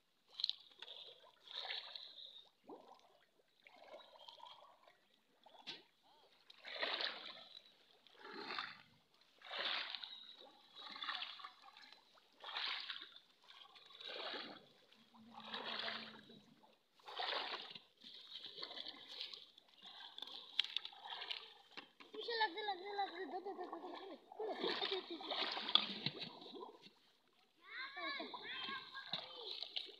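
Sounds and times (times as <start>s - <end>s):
shallow water splashing: 0.1s - 29.9s.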